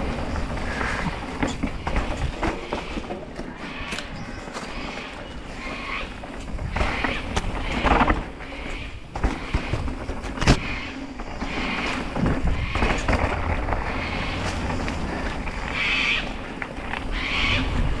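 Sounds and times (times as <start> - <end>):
bike rattles and clicks: 0.0 - 18.0
bike rumbling on dirt trail: 0.0 - 18.0.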